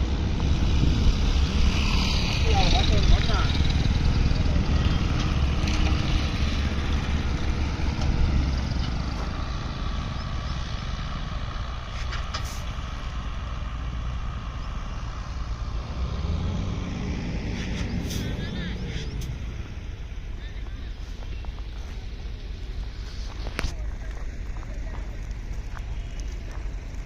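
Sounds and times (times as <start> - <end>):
road roller diesel engine humming: 0.0 - 27.0.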